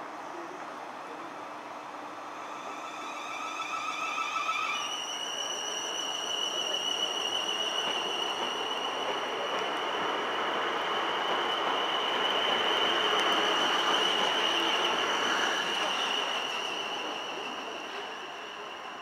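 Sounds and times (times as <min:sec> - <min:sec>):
electric train inverter whine: 0:00.0 - 0:19.0
hiss of wheels on rail: 0:00.0 - 0:19.0.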